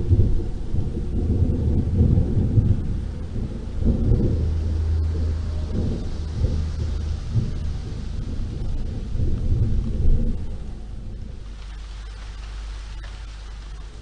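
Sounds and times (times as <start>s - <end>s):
rain hissing: 0.0s - 14.0s
thunder rumbling: 0.0s - 14.0s.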